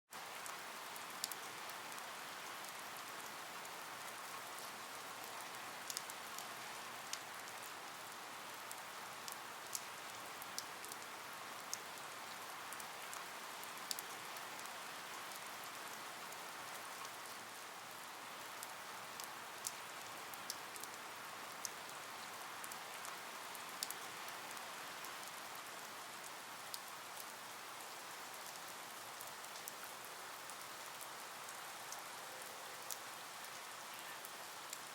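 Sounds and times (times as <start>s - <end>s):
raindrops ticking on a surface: 0.1s - 34.9s
steady rain hiss: 0.1s - 34.9s.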